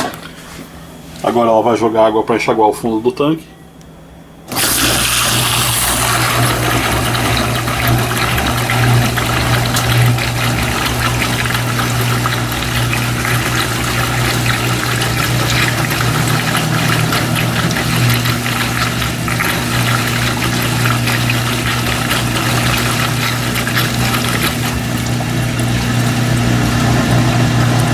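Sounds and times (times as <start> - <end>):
washing machine hum: 0.0 - 27.9
water spraying and splashing: 4.5 - 27.9.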